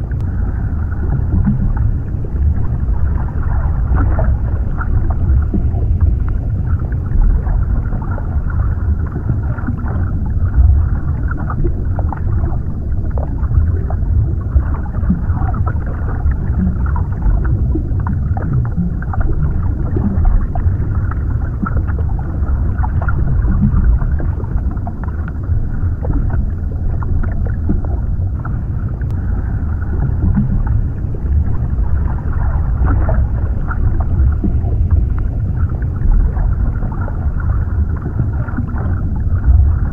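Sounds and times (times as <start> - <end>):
bubbling and gurgling: 0.0 - 39.9
muffled underwater rumble: 0.0 - 39.9.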